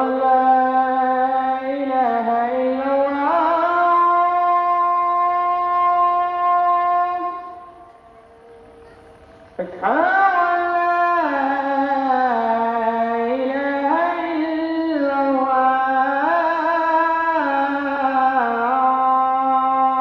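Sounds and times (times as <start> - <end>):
call to prayer: 0.0 - 20.0.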